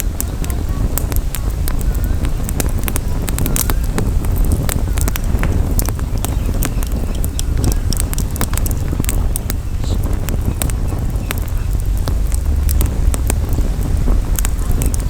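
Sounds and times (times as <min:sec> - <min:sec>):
campfire crackling and popping: 0:00.0 - 0:15.0
wind on microphone: 0:00.0 - 0:15.0.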